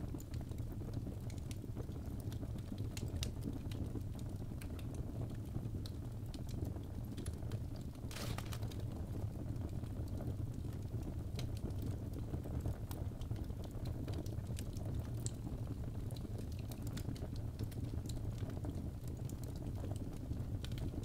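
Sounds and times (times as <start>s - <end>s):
logs crackling and popping: 0.1s - 21.0s.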